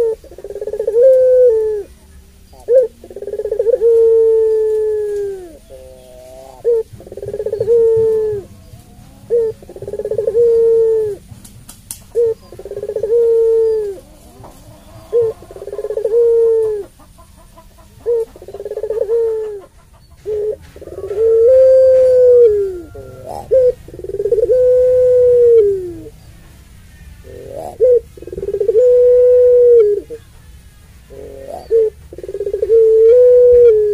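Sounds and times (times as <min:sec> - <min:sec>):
dove cooing: 0:00.0 - 0:26.2, 0:27.1 - 0:33.9.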